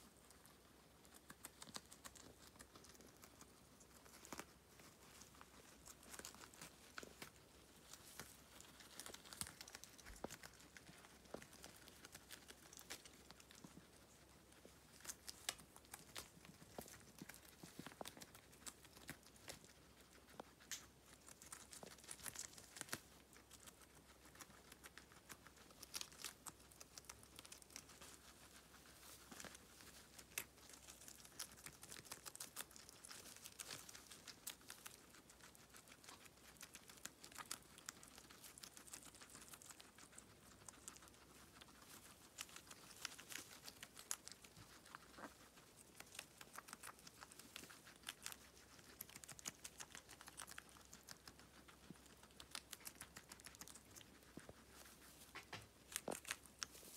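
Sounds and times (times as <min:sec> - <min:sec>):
guinea pigs chewing lettuce: 0:00.0 - 0:56.9.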